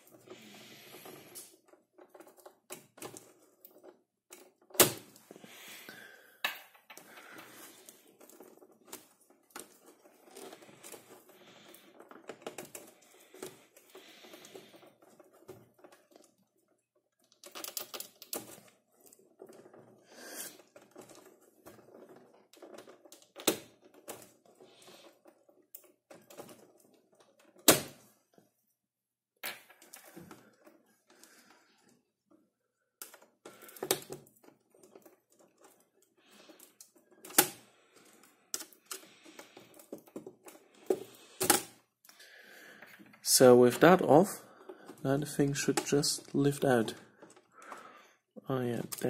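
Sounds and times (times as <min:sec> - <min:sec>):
knobs clicking and rattling: 0:00.0 - 0:28.4, 0:29.4 - 0:49.0.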